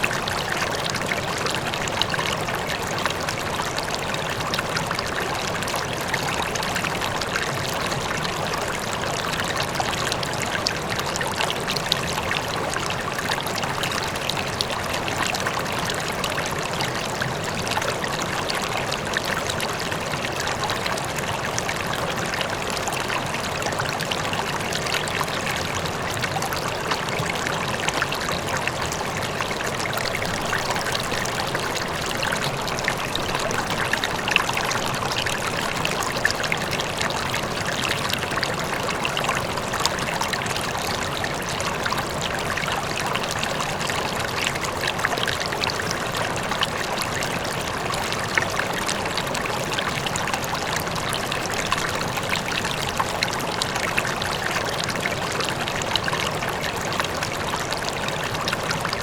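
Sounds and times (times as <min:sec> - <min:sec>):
river flowing: 0:00.0 - 0:59.0
water trickling splashes: 0:00.0 - 0:59.0.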